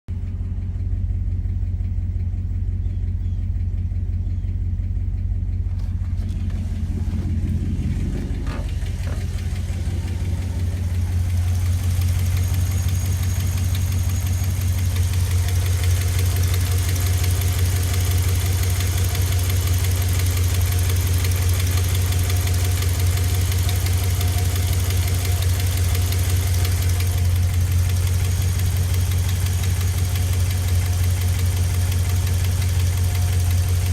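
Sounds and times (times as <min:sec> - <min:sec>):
engine idling: 0:00.1 - 0:33.9
engine ticking: 0:00.1 - 0:33.9.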